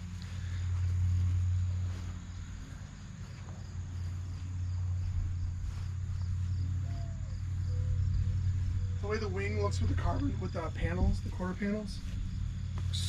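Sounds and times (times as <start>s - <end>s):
constant low hum: 0.0s - 13.0s
crickets chirping: 0.0s - 13.0s.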